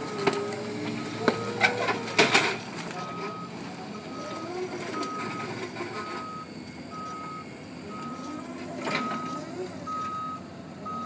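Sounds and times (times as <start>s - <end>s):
forklift backup alarm beeping: 0.0s - 11.0s
forklift drive motor whine: 0.0s - 11.0s.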